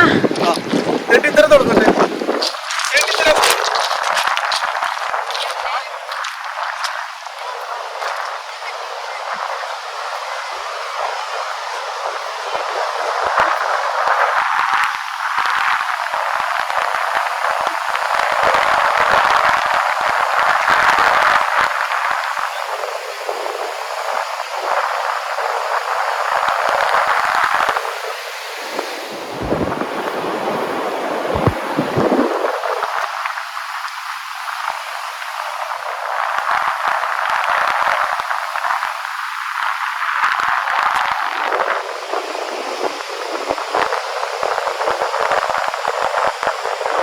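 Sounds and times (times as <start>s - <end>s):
ocean surf washing ashore: 0.0s - 47.0s.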